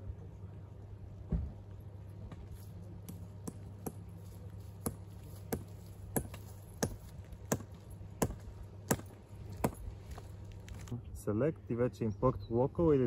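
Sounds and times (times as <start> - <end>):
electrical substation hum: 0.0 - 13.0.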